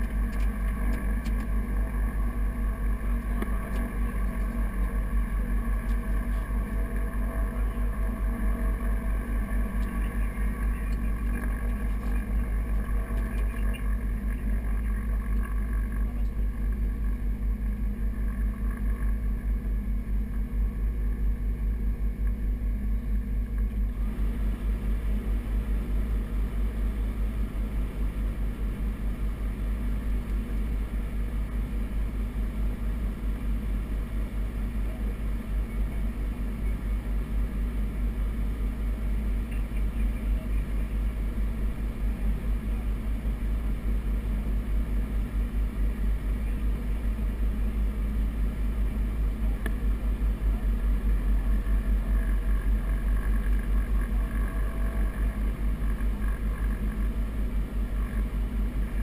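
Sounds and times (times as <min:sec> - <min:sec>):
aircraft piston engines droning: 0:00.0 - 0:59.0.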